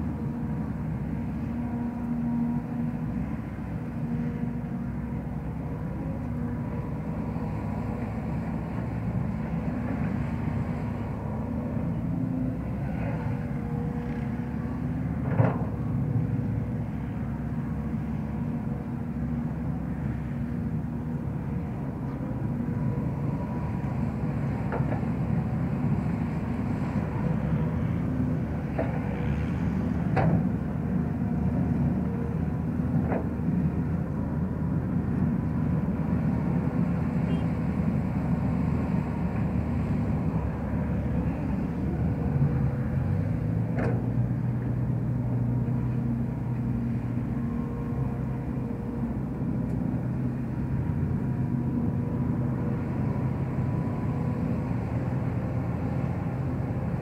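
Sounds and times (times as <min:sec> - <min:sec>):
excavator diesel engine: 0:00.0 - 0:57.0
low engine hum: 0:00.0 - 0:57.0.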